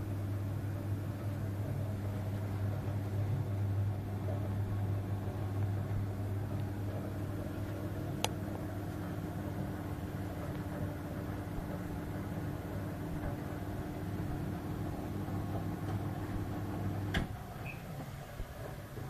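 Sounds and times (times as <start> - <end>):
gas boiler rumbling drone: 0.0 - 19.0.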